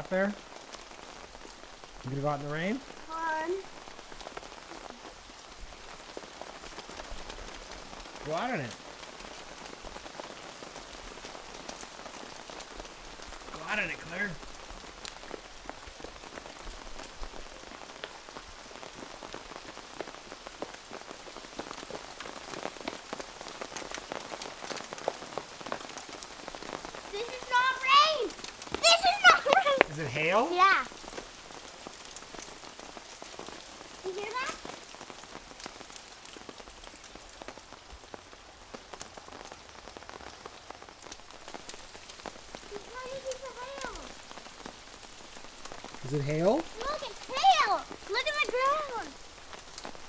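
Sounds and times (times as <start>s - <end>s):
hail ticking: 0.0s - 50.0s
heavy rain: 0.0s - 50.0s.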